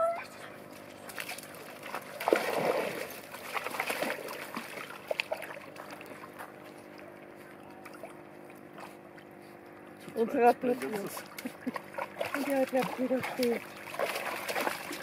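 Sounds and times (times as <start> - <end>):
dogs splashing in water: 0.7 - 7.0, 7.6 - 9.5, 10.1 - 15.0.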